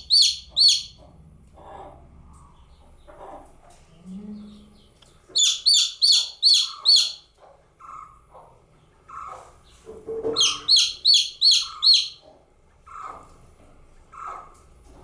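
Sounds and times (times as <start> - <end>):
chick peeping: 0.0 - 14.9.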